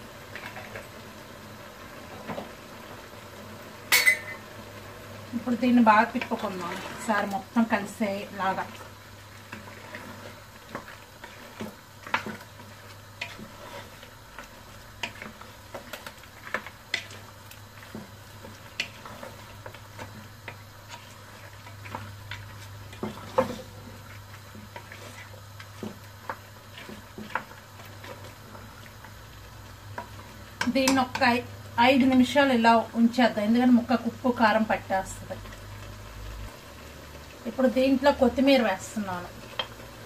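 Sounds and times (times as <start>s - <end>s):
masala sizzling: 0.0s - 40.0s.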